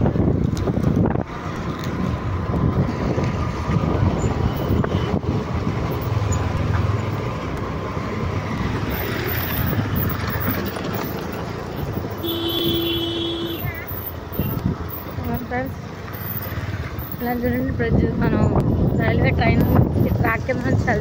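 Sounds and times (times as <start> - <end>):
wind buffeting microphone: 0.0 - 12.9, 13.6 - 15.8, 16.6 - 21.0.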